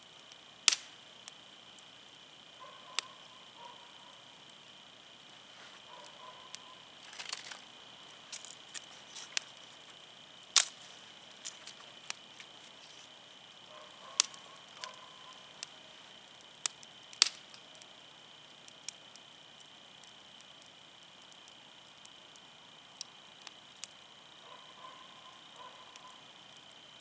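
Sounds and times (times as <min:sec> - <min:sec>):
campfire crackling and popping: 0:00.0 - 0:24.4, 0:25.1 - 0:27.0.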